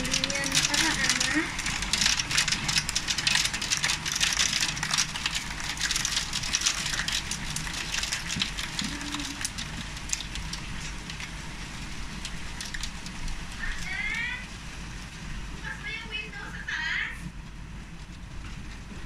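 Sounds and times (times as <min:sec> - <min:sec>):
hailstones ticking on wooden deck: 0:00.0 - 0:19.0
rain hiss: 0:00.0 - 0:19.0.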